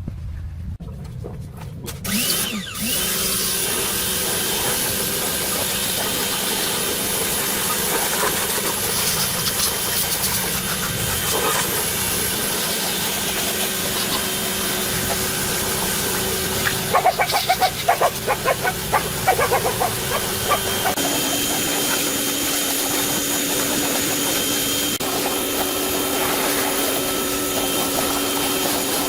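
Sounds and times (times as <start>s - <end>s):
machine hissing with faint whine: 4.2s - 29.0s.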